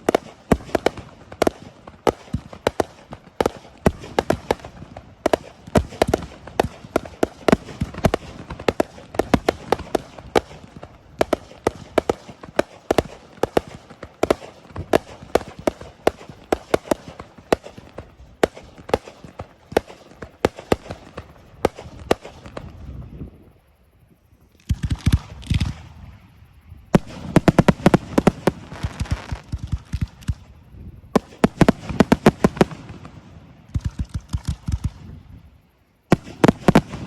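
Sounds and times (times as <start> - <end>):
fireworks bursting: 0.0 - 23.8, 24.4 - 37.0.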